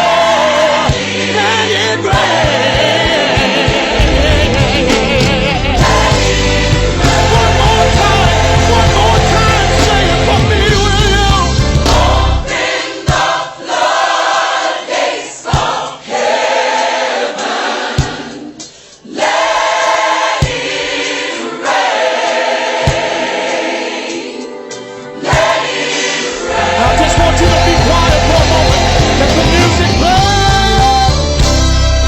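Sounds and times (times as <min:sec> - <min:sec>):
gospel choir singing: 0:00.0 - 0:32.0.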